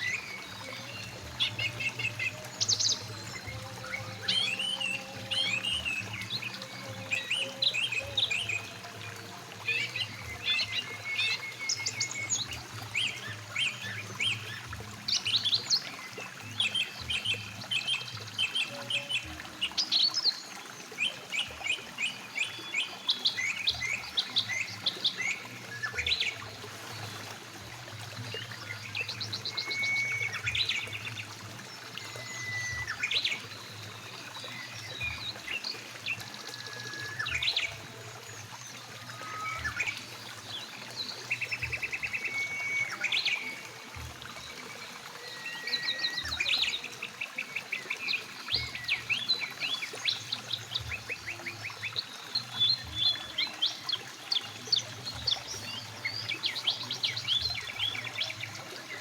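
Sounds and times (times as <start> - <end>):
river rushing: 0.0 - 59.0
songbirds chirping and singing: 0.0 - 59.0.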